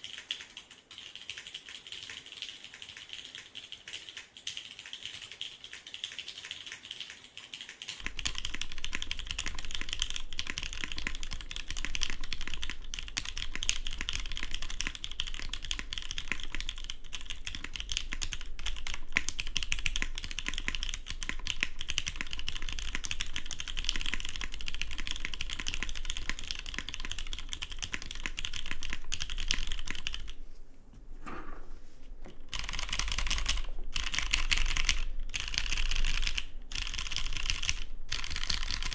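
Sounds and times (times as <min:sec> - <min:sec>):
fast mechanical keyboard typing: 0:00.0 - 0:30.5, 0:32.2 - 0:38.9.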